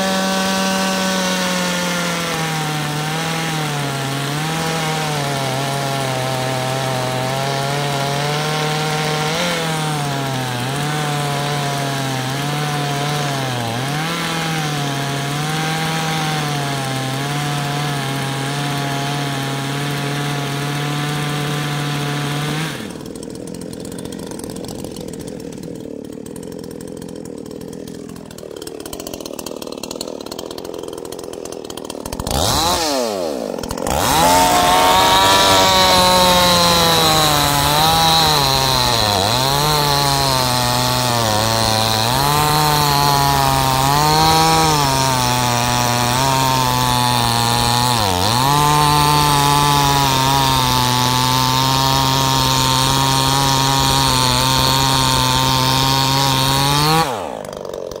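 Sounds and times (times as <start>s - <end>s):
chainsaw cutting log: 0.0s - 58.0s.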